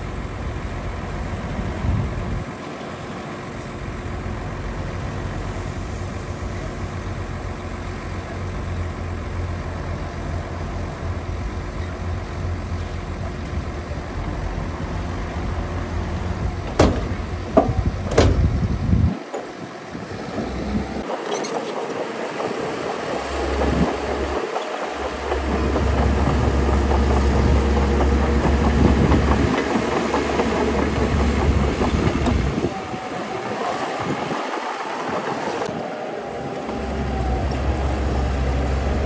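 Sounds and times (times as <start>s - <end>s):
heavy machinery diesel engine drone: 0.0s - 39.0s.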